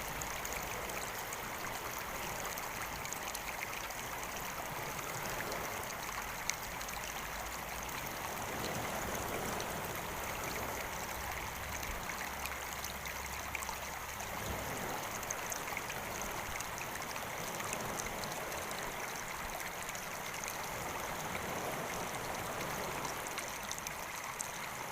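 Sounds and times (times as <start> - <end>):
faint splashes and ticks: 0.0 - 24.9
stream flowing: 0.0 - 24.9.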